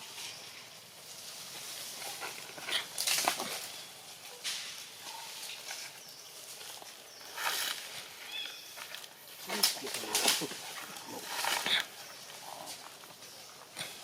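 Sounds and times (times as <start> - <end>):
monkeys rustling and scuffling: 0.0 - 14.0.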